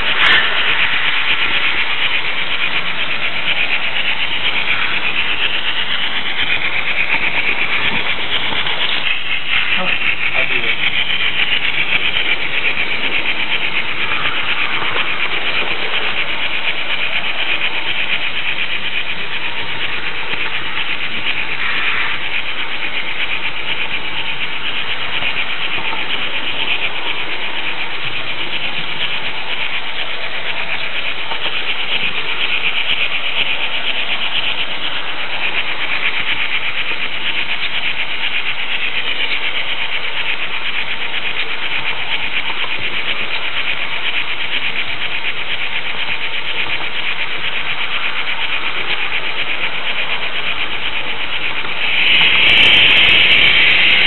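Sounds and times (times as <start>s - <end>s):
model train wheels rolling on rails: 0.0s - 54.0s.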